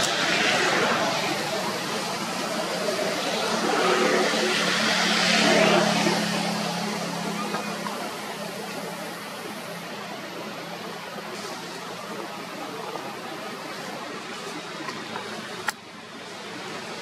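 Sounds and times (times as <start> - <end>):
rushing hiss background noise: 0.0 - 17.0.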